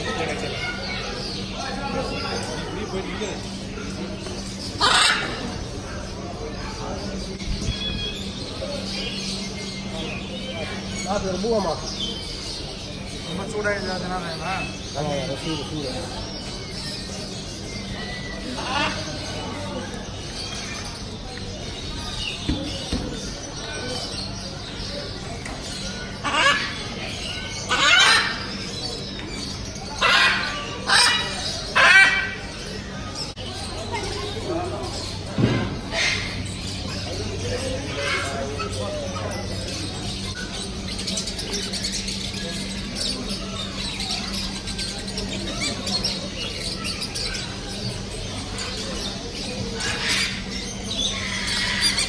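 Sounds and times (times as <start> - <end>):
parrots squawking: 0.0 - 21.0, 21.6 - 52.0
steady low hum: 0.0 - 52.0.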